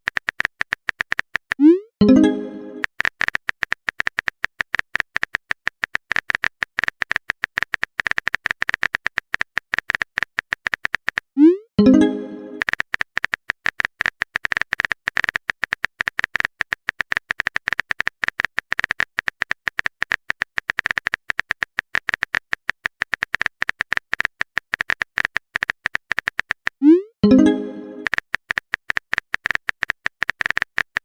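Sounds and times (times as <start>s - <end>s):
rapid keyboard clicking: 0.0s - 1.7s, 2.6s - 11.4s, 12.2s - 31.0s.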